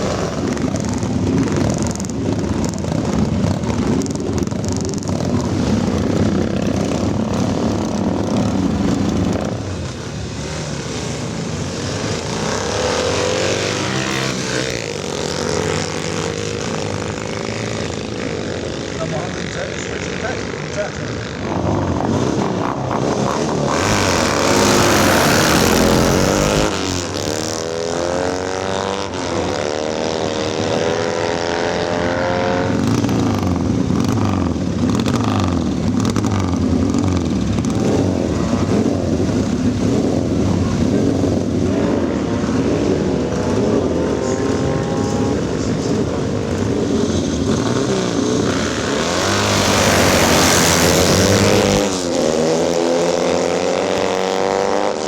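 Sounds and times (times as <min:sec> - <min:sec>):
motorcycle accelerating through gears: 0:00.0 - 0:55.0
motorcycle engines revving: 0:00.0 - 0:55.0.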